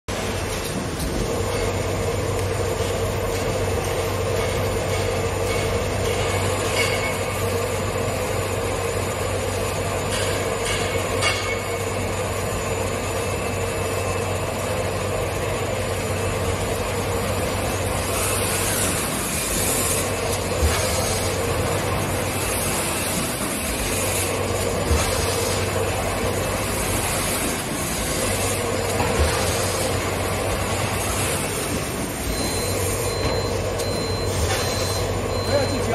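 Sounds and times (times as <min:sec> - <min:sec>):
packing machine drone: 0:00.1 - 0:35.9.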